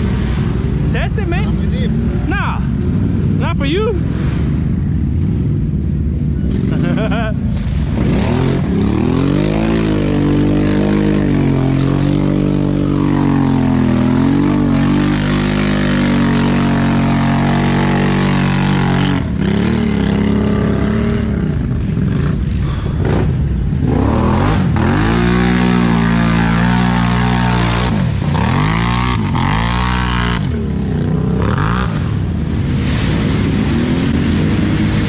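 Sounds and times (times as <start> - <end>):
atv engine revving: 6.2 - 35.0.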